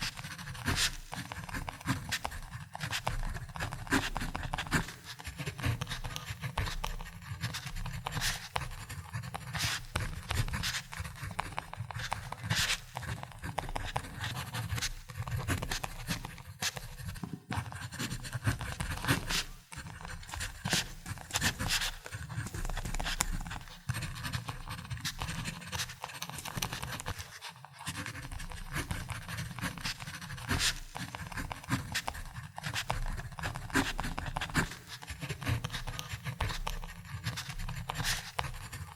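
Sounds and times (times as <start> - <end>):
pen scratching on paper: 0.0 - 38.9.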